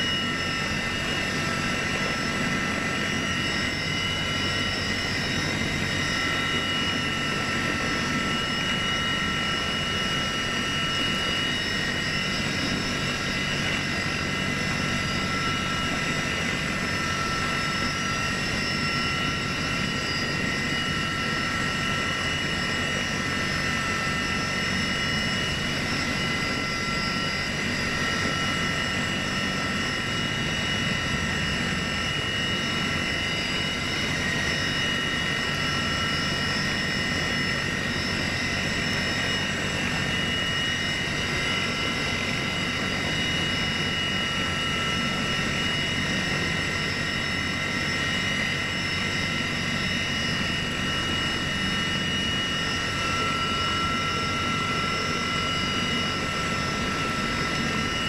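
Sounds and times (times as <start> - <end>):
helicopter rotor and engine noise: 0.0 - 58.0.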